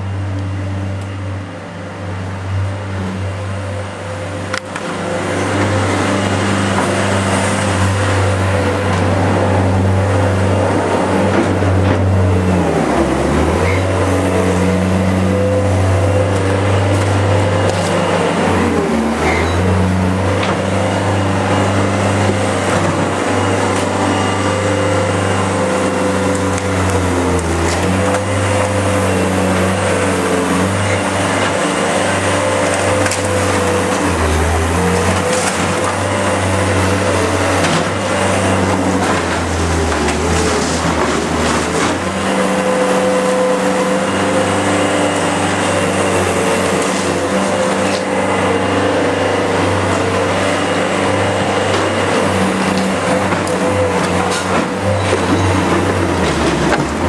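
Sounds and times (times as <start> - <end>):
excavator diesel engine: 0.0 - 57.0
wood and debris crunching: 6.6 - 57.0.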